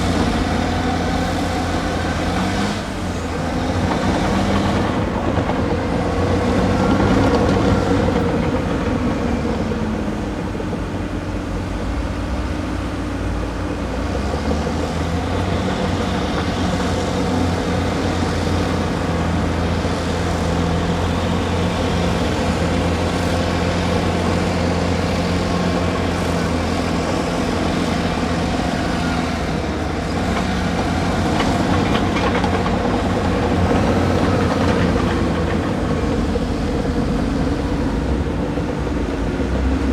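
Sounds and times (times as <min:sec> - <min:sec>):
excavator diesel engines running: 0:00.0 - 0:39.9.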